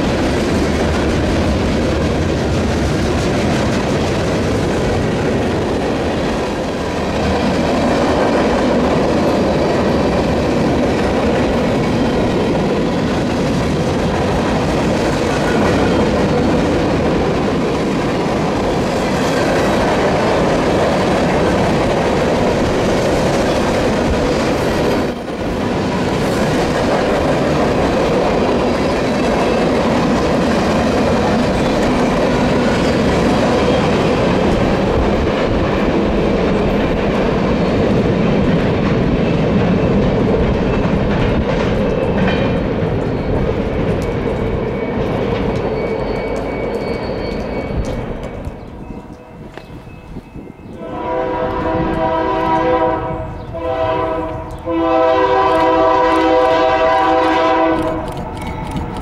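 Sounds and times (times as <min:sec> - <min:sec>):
train wheels clicking on rails: 0:00.0 - 0:59.0.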